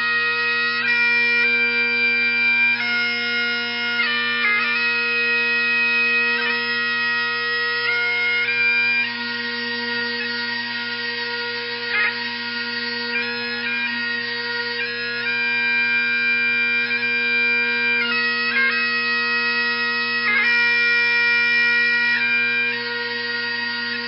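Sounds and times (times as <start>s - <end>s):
bagpipes playing slow tune: 0.0s - 24.0s.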